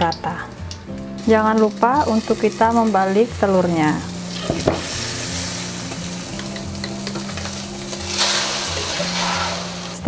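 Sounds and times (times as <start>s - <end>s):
omelette sizzling in hot oil: 0.7s - 10.0s.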